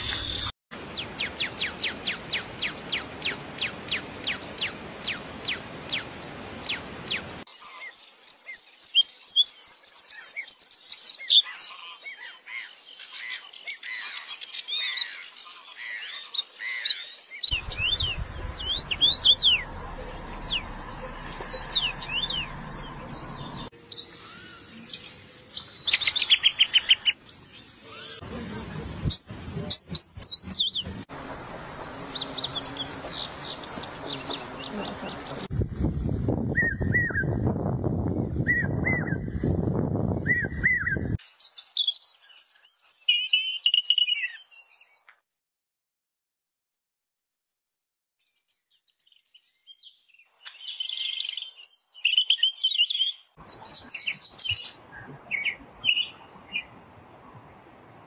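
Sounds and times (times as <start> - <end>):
songbirds singing and calling: 0.0 - 28.2, 29.1 - 45.1, 48.2 - 57.8.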